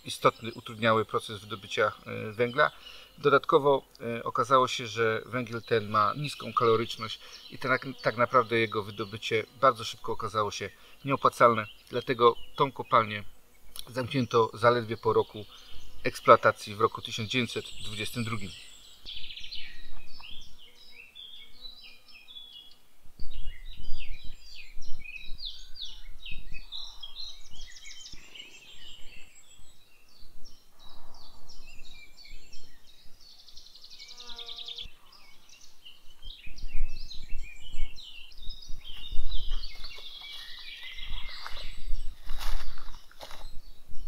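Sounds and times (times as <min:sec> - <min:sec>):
songbirds chirping and trilling: 0:00.0 - 0:44.0.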